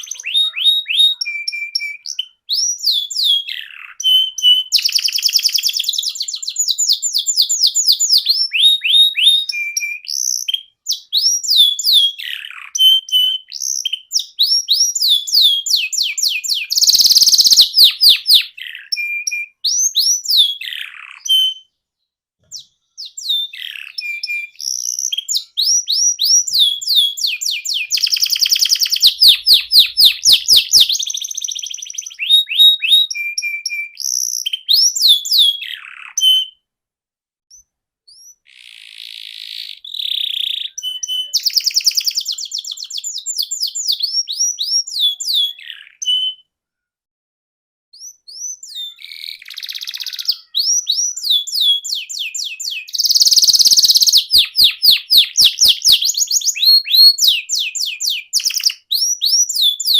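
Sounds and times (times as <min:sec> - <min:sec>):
canary singing trills: 0:00.0 - 0:36.6, 0:37.5 - 0:46.5, 0:48.0 - 0:59.9.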